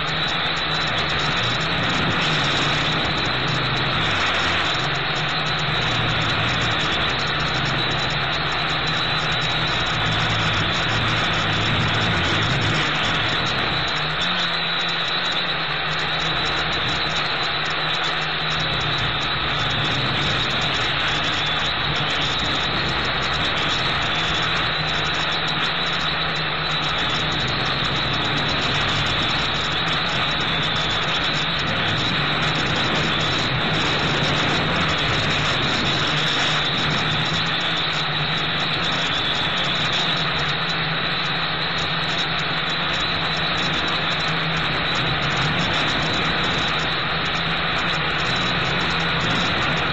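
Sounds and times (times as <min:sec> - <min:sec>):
drone motors and propellers: 0:00.0 - 0:49.9.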